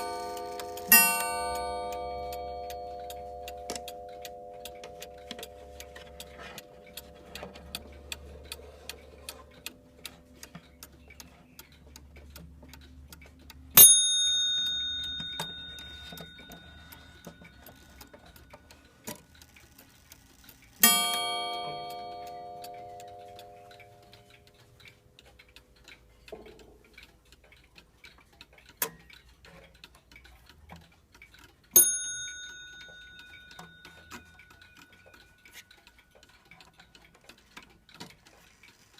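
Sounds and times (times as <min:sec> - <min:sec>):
clock striking: 0:00.0 - 0:11.3, 0:11.9 - 0:26.9, 0:31.7 - 0:37.6
clock ticking: 0:00.0 - 0:38.9.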